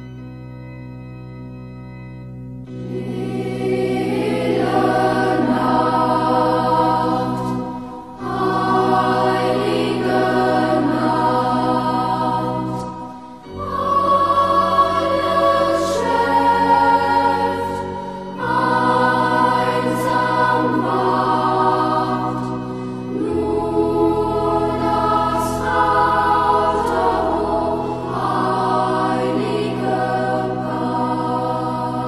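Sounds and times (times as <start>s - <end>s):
choir singing long chords: 2.2s - 32.0s.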